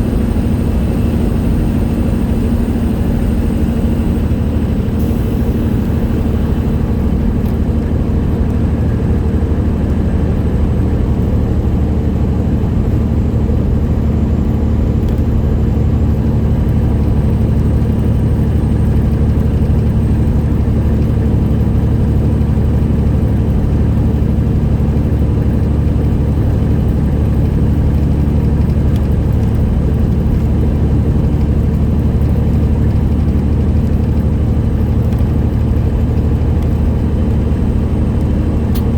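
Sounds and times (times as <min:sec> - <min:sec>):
diesel truck engine drone: 0:00.0 - 0:38.9.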